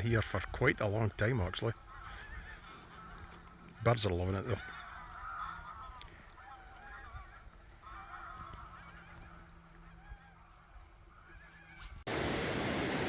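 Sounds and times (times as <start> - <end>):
distant geese honking: 0.0 - 13.0.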